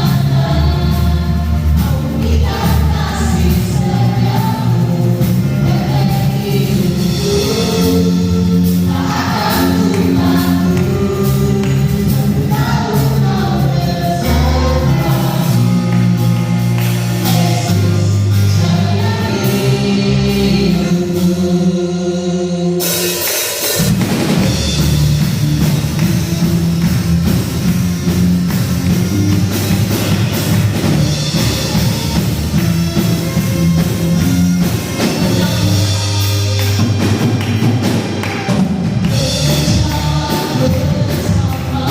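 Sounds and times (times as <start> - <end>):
singers with band accompaniment: 0.0 - 26.6, 29.6 - 41.9.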